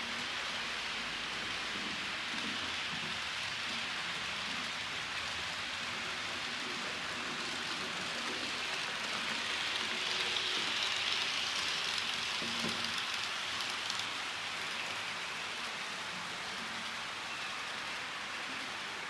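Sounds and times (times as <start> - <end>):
model train whirring on track: 0.0 - 19.0.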